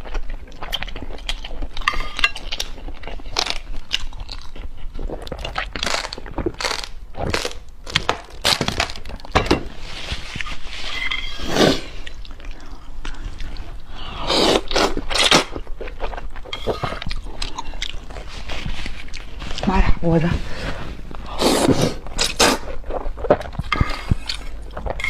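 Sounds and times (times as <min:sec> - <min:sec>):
crunching and chewing: 0:00.0 - 0:09.3, 0:11.9 - 0:19.6, 0:22.0 - 0:25.0.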